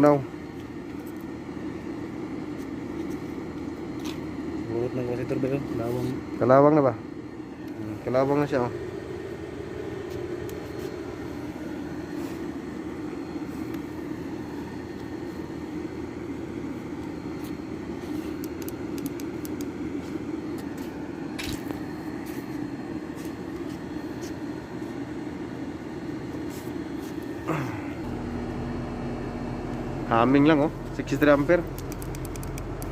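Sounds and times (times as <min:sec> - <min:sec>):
compressor humming: 0:00.0 - 0:32.9.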